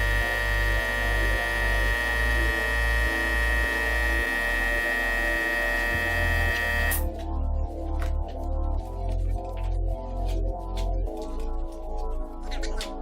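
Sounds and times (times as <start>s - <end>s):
electric hum with high whine: 0.0s - 13.0s
low bass line: 0.0s - 13.0s.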